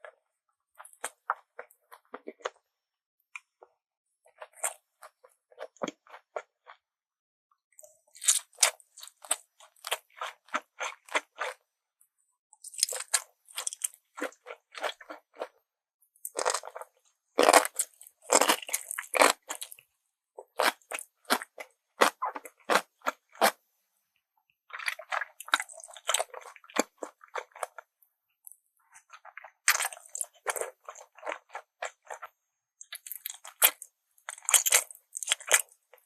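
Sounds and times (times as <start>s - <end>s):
chewing crunchy food: 0.0s - 2.7s, 3.4s - 6.8s, 7.8s - 11.6s, 12.6s - 15.6s, 16.2s - 23.6s, 24.7s - 36.0s.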